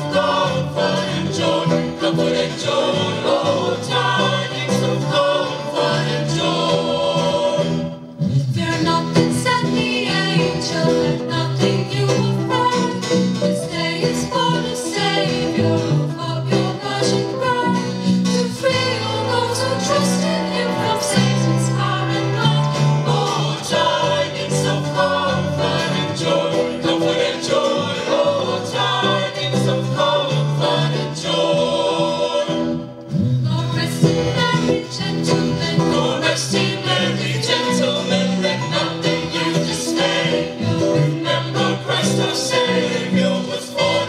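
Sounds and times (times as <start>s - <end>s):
live band playing: 0.0s - 44.0s
mixed choir singing gospel: 0.0s - 44.0s.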